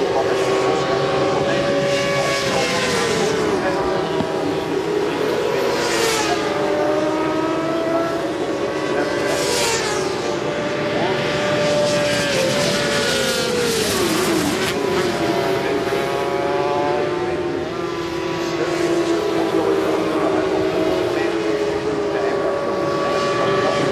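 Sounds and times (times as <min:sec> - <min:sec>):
racing motorcycles passing at high revs: 0:00.0 - 0:23.9.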